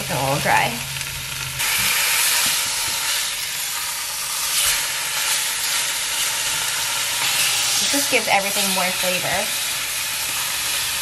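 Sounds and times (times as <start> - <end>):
meat and onions sizzling in oil: 0.0 - 11.0.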